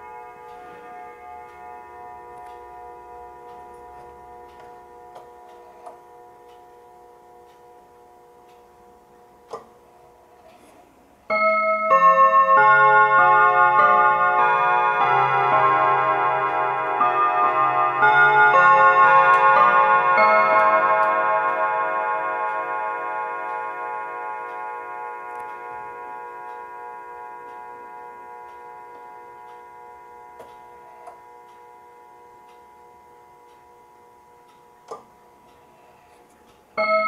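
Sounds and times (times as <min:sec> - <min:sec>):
light clicks of clock hands: 0:00.0 - 0:12.0, 0:13.6 - 0:37.0
clock chiming on rods: 0:00.0 - 0:37.0
clock ticking faintly: 0:00.0 - 0:37.0.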